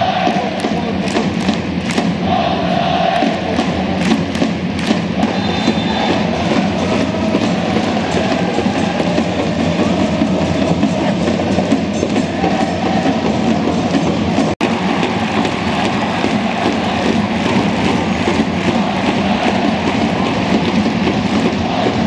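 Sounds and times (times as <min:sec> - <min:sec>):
crowd cheering and chanting: 0:00.0 - 0:22.0.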